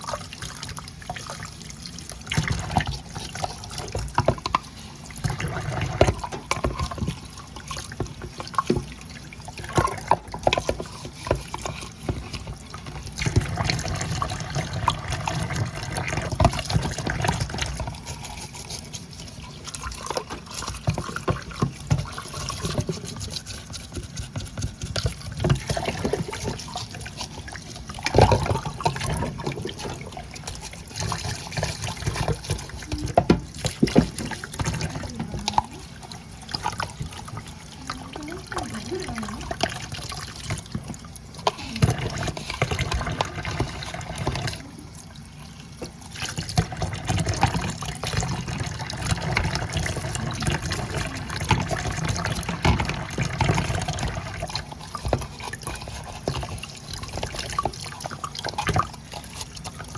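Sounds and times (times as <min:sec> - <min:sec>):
gurgling in drain pipe: 0:00.0 - 0:59.9
water draining from sink: 0:00.0 - 0:59.9.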